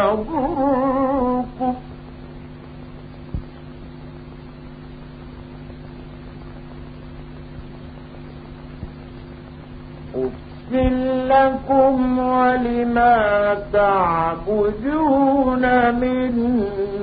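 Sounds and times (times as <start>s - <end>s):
electrical hum: 0.0s - 17.0s
hiss and static: 0.0s - 17.0s.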